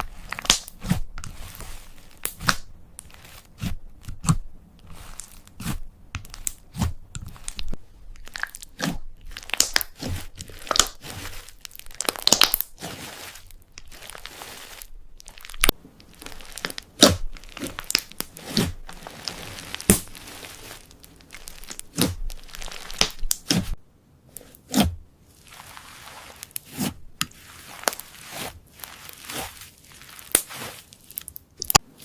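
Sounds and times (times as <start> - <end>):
slime crackling and popping: 0.0 - 23.8, 25.3 - 31.8.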